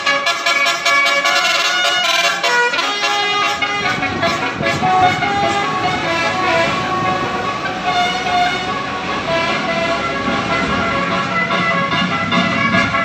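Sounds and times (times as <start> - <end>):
engine and traffic rumble: 0.0 - 13.0
musical bus air horns tooting: 0.0 - 13.0.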